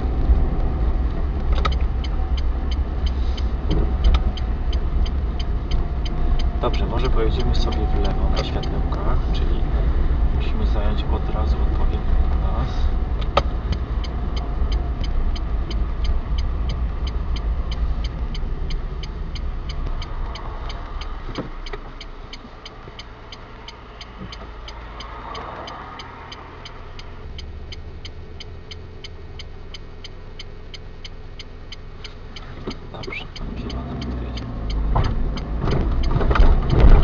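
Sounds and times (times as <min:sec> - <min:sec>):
car engine and tyre noise: 0:00.0 - 0:37.0
turn signal ticking: 0:00.0 - 0:37.0.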